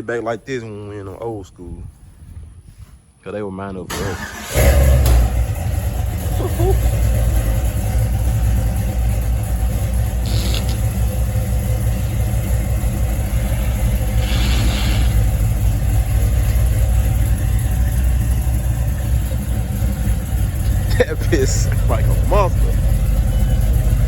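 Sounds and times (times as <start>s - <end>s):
engine idling with deep rumble: 4.2s - 24.0s.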